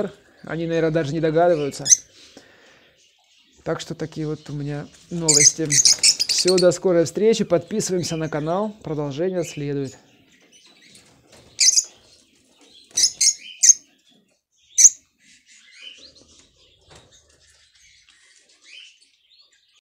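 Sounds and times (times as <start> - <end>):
lovebirds chirping: 0.0 - 19.8.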